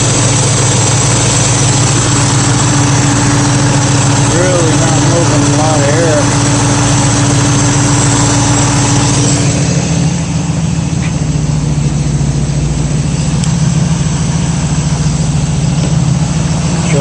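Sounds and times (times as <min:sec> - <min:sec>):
car engine idling: 0:00.0 - 0:17.0
electric radiator fan running: 0:00.0 - 0:17.0.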